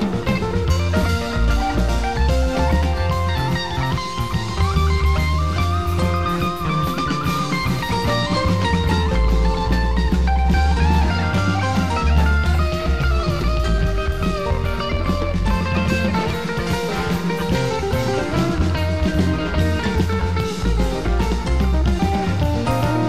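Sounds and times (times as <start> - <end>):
bass and drums: 0.0 - 23.0
rock guitar melody: 0.0 - 23.0.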